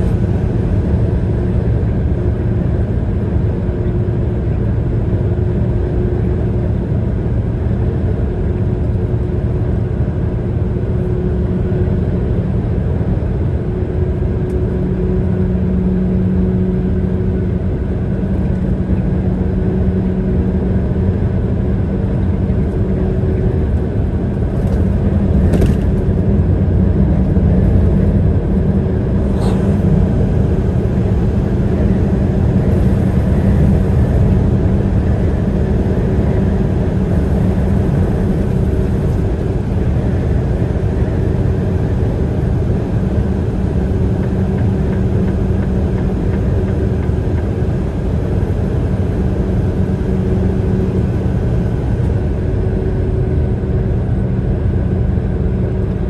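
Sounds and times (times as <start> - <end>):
vehicle engine and tyre rumble: 0.0 - 56.0.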